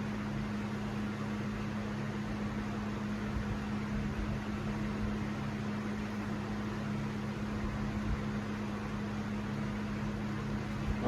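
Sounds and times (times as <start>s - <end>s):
fan motor hum: 0.0s - 11.0s.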